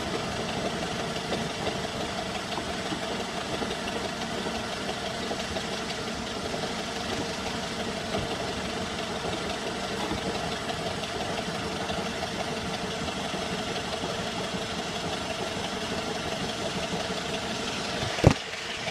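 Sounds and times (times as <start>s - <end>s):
car engine idling: 0.0s - 18.9s
knocking from clutch area: 0.0s - 18.9s.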